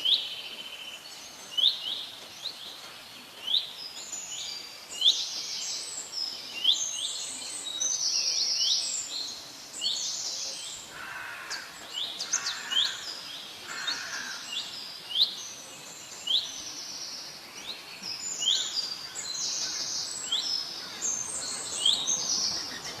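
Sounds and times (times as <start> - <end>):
background hiss: 0.0 - 23.0
birds chirping: 0.0 - 23.0.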